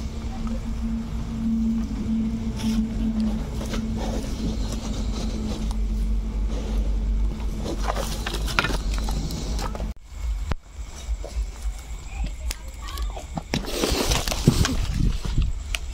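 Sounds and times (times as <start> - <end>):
low mechanical hum: 0.0 - 15.9.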